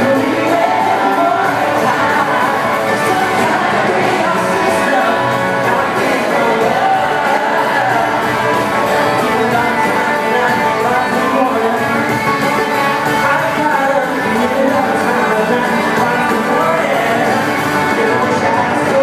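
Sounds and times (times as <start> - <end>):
live band with guitars and drums: 0.0 - 19.0
man singing: 0.0 - 19.0.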